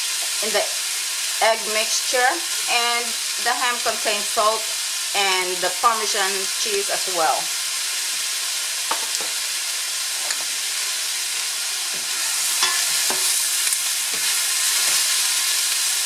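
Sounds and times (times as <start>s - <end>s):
mushrooms and onion sizzling in pan: 0.0s - 16.0s.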